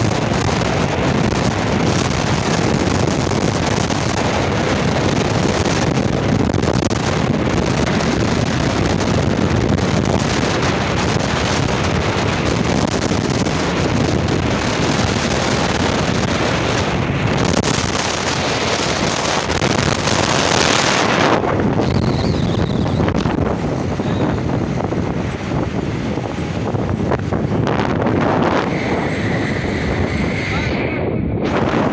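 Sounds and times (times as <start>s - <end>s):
vehicle and road rumble: 0.0s - 31.9s
wind buffeting the microphone: 0.0s - 31.9s.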